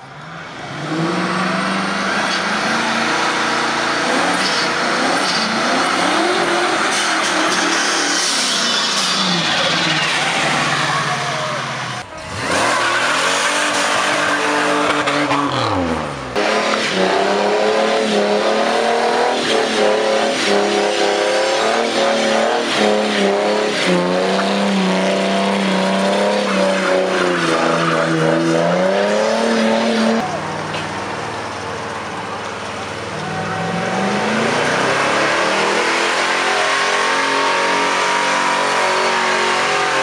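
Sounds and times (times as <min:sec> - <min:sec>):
car engines revving: 0:00.0 - 0:40.0
tyres squealing on asphalt: 0:00.0 - 0:40.0.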